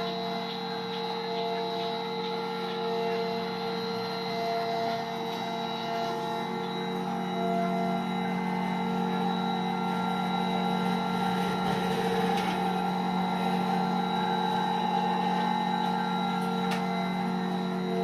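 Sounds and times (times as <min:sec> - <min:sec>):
machine hum with tones: 0:00.0 - 0:18.0.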